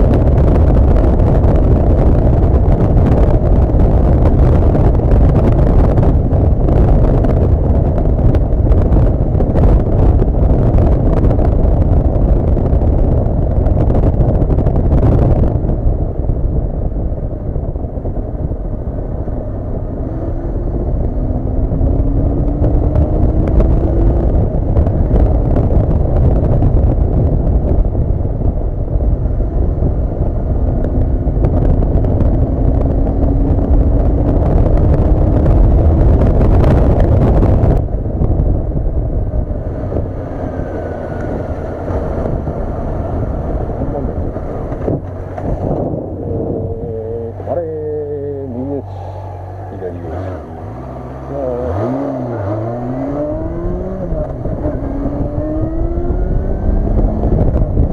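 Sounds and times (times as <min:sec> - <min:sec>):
motorcycle engine: 0:00.0 - 0:57.9
wind buffeting microphone: 0:00.0 - 0:57.9.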